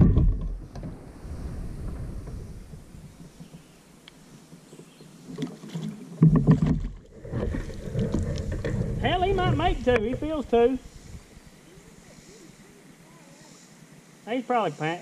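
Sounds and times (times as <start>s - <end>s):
water splashing: 0.0s - 13.7s.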